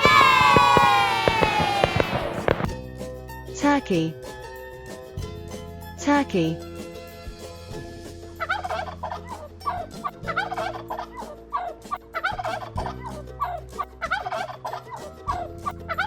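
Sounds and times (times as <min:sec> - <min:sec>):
soft background music: 0:02.7 - 0:16.0.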